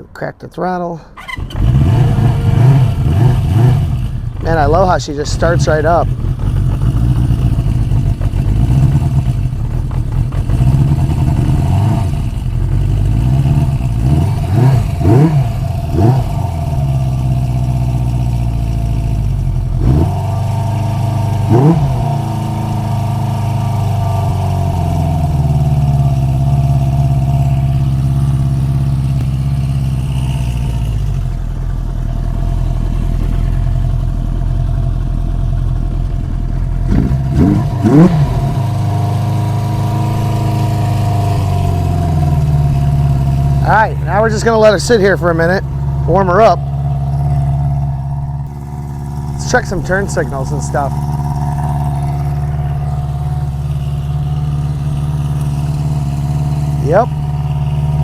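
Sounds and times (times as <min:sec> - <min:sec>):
engine revving: 0:01.2 - 0:58.0
motorcycle engine idling: 0:01.2 - 0:58.0.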